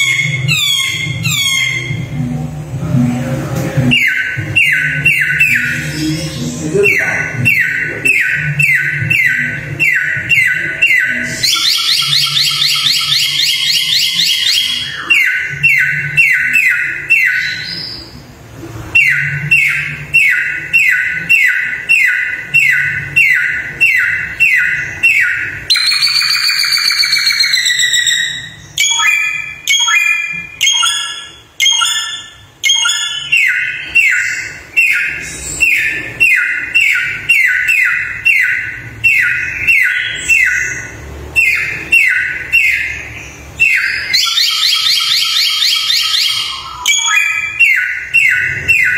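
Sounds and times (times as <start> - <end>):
songbird whistling and trilling: 0.0 - 2.2, 3.9 - 6.2, 7.0 - 18.2, 18.9 - 48.9.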